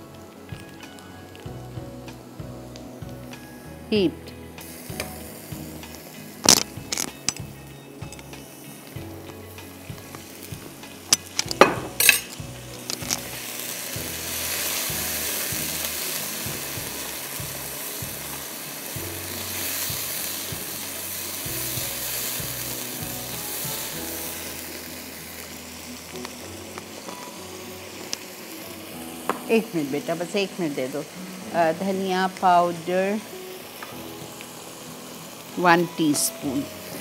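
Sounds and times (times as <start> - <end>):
food sizzling in a wok: 0.0 - 37.0.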